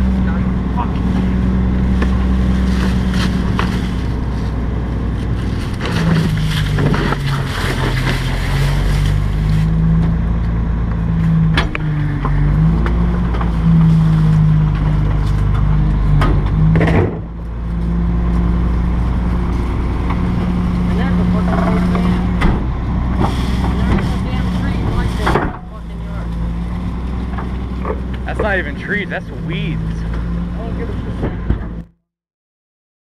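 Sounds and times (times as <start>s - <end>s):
garbage truck diesel engine: 0.0s - 31.9s
branches crackling: 1.4s - 16.7s, 17.4s - 28.8s.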